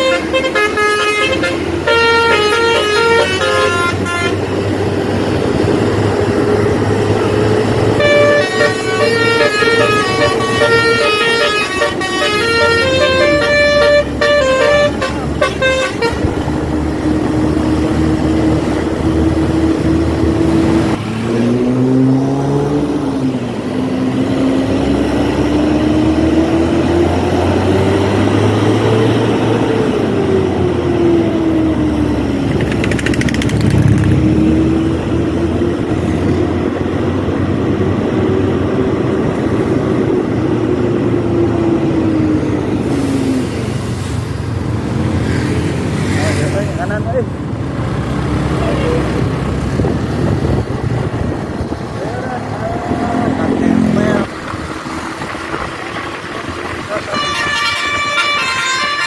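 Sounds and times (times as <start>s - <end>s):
vehicle engine accelerating: 4.4s - 15.4s, 16.1s - 57.2s.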